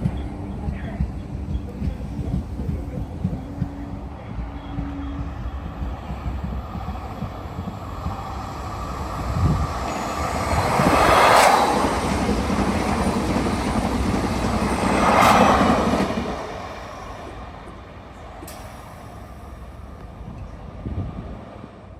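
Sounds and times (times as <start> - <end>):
train wheels on rails: 0.0 - 21.9.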